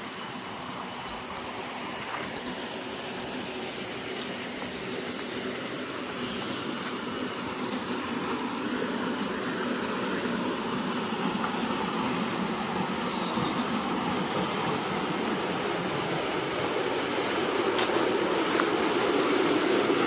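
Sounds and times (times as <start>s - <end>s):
water rushing over dam: 0.0s - 20.0s.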